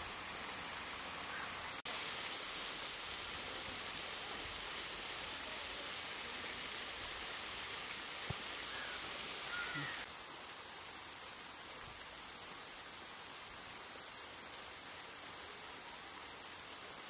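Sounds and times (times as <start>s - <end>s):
running water hiss: 0.0s - 17.0s.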